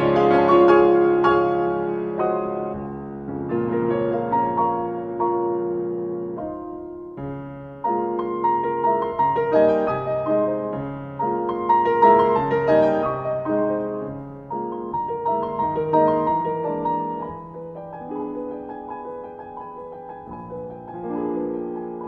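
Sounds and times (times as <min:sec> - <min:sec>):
grand piano melody: 0:00.0 - 0:22.0.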